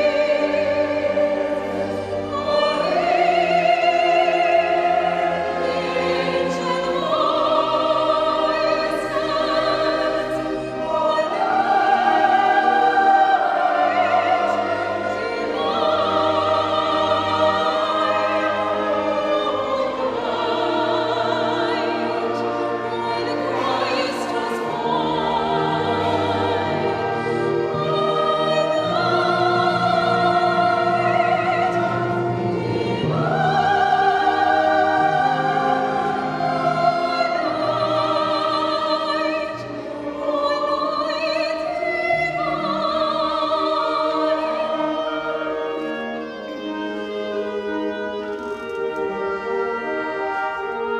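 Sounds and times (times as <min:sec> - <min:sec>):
classical singing with vibrato: 0:00.0 - 0:50.9
orchestral accompaniment: 0:00.0 - 0:50.9.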